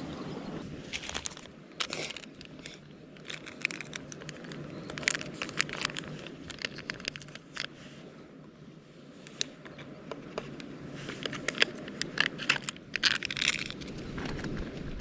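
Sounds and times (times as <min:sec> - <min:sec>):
crinkling and rustling: 0:00.6 - 0:15.0.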